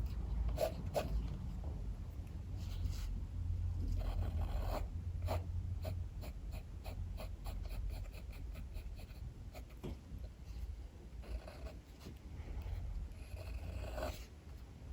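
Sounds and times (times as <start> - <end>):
low rumble of strong wind: 0.0 - 14.9.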